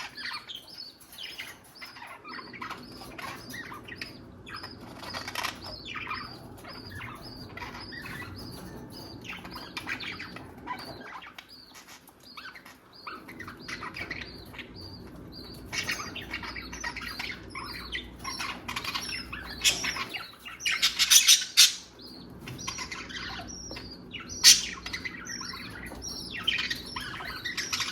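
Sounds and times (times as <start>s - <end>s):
budgerigars chattering: 0.0s - 27.9s.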